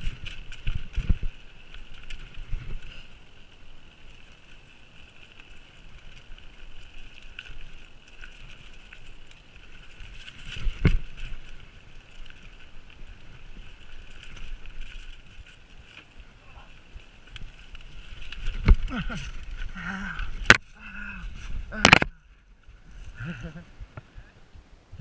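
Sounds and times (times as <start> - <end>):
bike clicks and rattles: 0.0 - 22.2
bike tyre and frame noise: 0.0 - 25.0.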